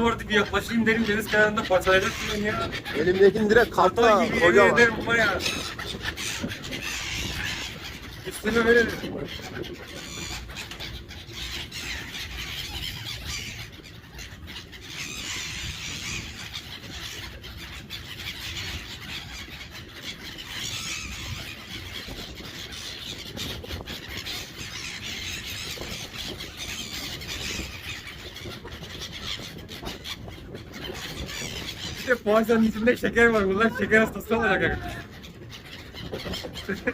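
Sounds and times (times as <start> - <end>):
seagulls calling: 0.0 - 36.9.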